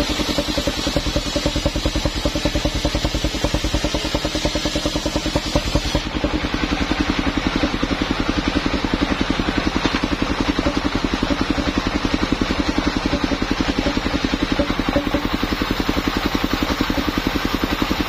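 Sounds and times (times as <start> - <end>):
circular blade cutting log: 0.0 - 8.4, 9.2 - 18.0
sawmill engine running: 0.0 - 18.0.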